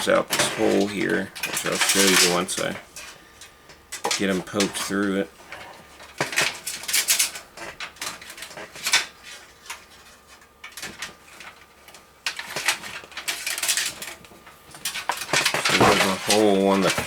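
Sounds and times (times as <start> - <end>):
cables rustling and scraping: 0.0 - 17.0.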